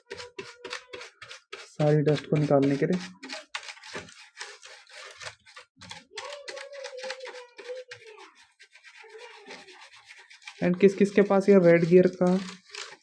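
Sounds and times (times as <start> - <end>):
brush scrubbing keyboard: 0.0 - 13.0.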